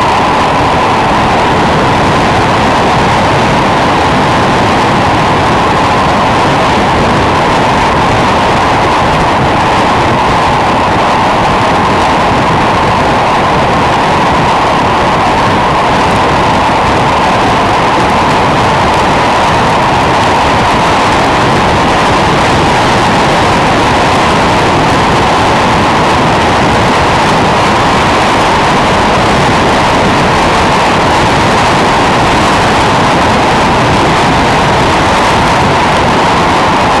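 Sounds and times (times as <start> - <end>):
loud wind rush on microphone: 0.0 - 37.0.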